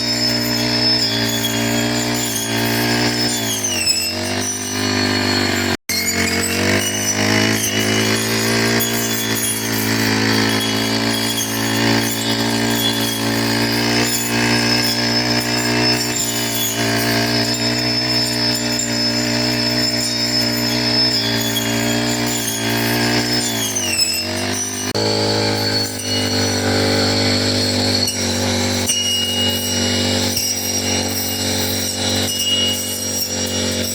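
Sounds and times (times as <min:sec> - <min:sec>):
brush cutter engine cutting grass: 0:00.0 - 0:33.9.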